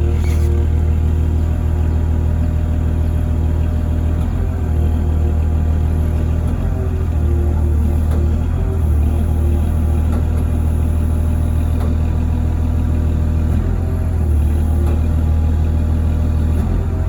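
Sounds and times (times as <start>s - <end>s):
large engine rumbling: 0.0s - 17.0s.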